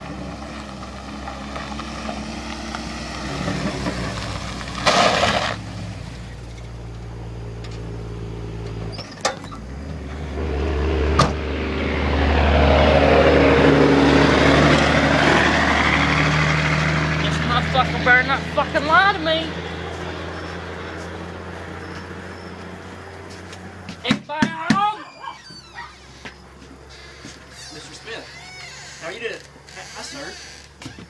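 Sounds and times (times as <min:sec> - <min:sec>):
vehicle engine running: 0:00.0 - 0:24.1, 0:25.7 - 0:31.0.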